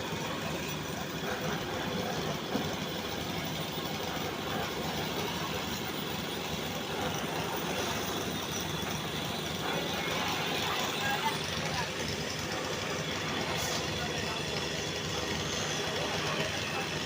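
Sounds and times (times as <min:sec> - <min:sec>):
machinery engine running: 0:00.0 - 0:17.0.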